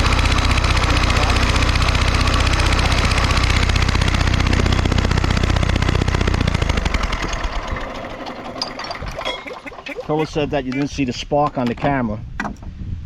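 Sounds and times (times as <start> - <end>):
lawn mower engine cranking: 0.0 - 11.0.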